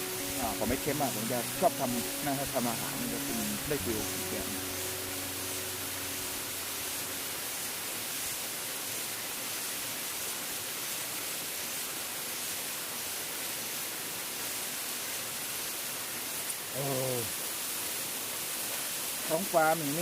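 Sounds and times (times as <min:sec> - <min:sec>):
waterfall stream rushing: 0:00.0 - 0:20.0.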